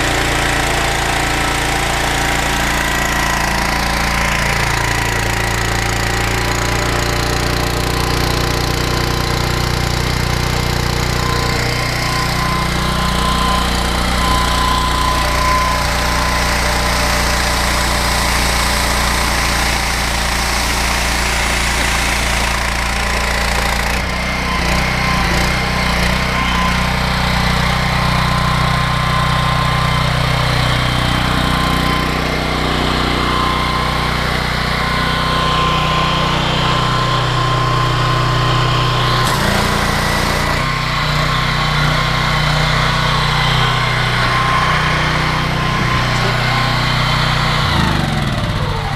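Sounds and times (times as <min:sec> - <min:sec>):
pressure washer engine running: 0:00.0 - 0:48.9
pump whine: 0:00.0 - 0:48.9.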